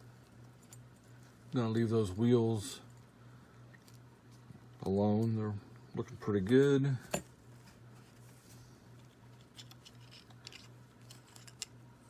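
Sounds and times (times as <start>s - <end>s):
faint low electrical hum: 0.0s - 12.0s.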